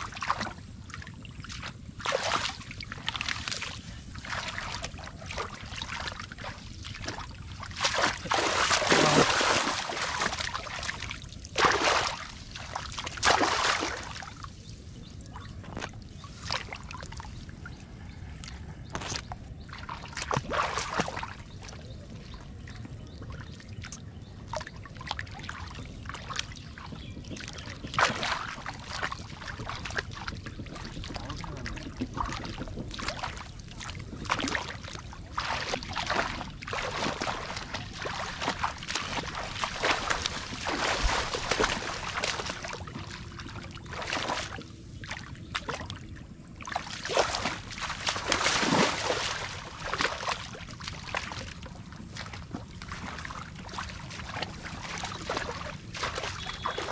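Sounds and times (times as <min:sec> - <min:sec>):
low steady rumble: 0:00.0 - 0:56.9
wading feet splashing: 0:00.0 - 0:56.9
hands splashing in muddy water: 0:00.1 - 0:14.6, 0:18.2 - 0:21.8, 0:23.8 - 0:56.9.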